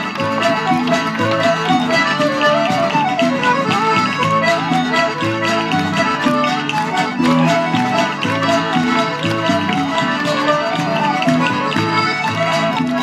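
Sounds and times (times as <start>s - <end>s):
fiddles playing fast melody: 0.0s - 13.0s
percussive taps: 0.0s - 13.0s.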